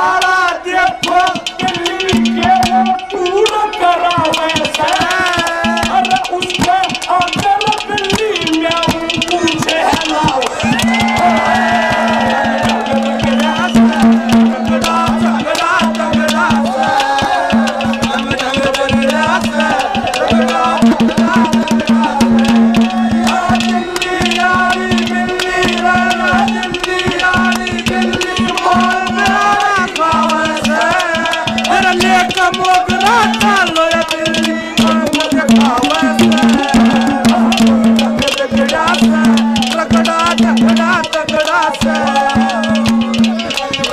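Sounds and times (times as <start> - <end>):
fast drum beat: 0.0 - 43.9
instrumental folk melody: 0.0 - 43.9.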